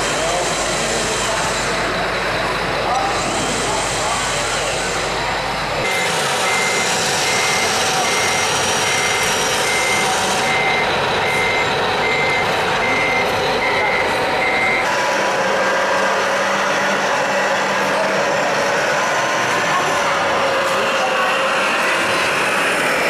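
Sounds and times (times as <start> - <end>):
reversing beeper: 0.1 - 22.2.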